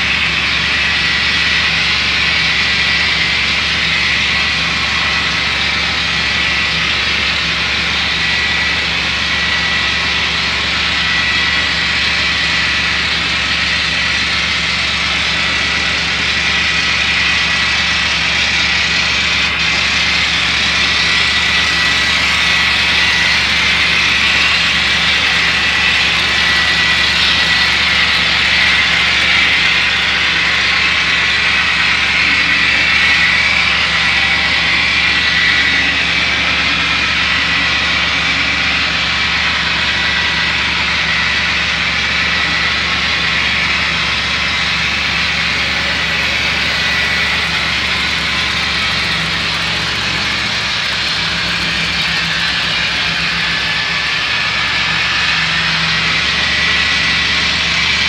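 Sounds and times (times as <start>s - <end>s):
high whine: 0.0s - 58.0s
model locomotive engine rumble: 0.0s - 58.0s.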